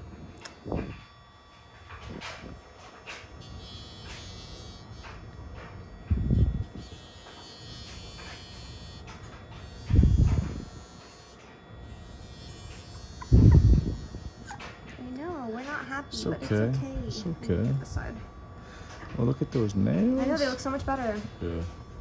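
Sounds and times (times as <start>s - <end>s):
electric nail grinder buzzing: 0.0s - 22.0s.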